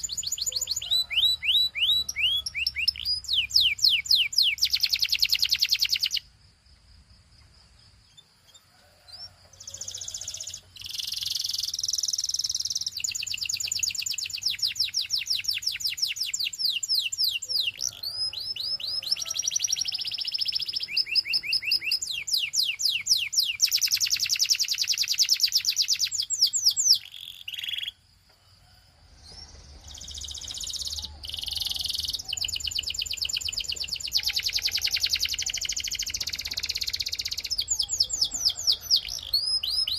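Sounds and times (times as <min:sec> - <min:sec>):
canary singing trills: 0:00.0 - 0:06.3, 0:07.4 - 0:28.0, 0:29.2 - 0:39.9.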